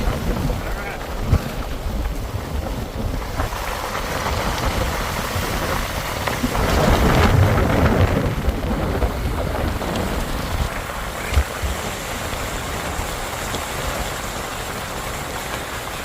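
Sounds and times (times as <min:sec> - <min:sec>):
rain: 0:00.0 - 0:16.0
tyres on wet trail: 0:00.0 - 0:16.0.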